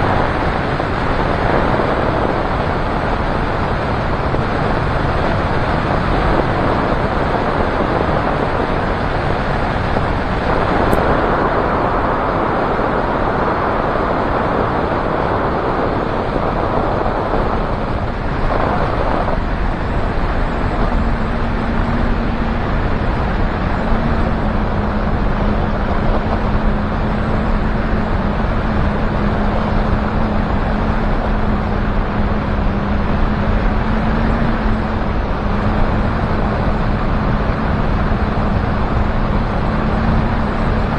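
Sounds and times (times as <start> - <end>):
aircraft engine and propeller drone: 0.0 - 40.9
wind rush on microphone: 0.0 - 40.9.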